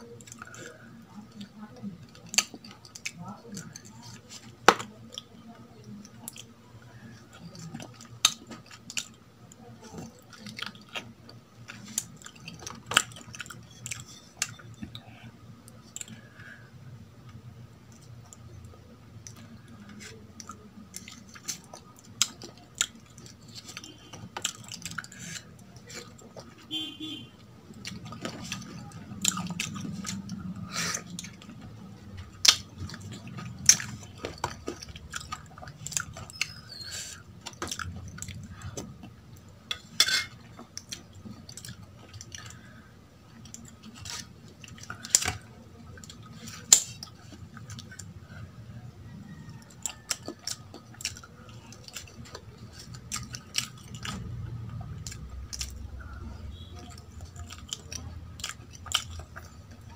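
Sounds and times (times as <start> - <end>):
wet chewing and mouth smacks: 0.0 - 16.6, 17.3 - 59.9.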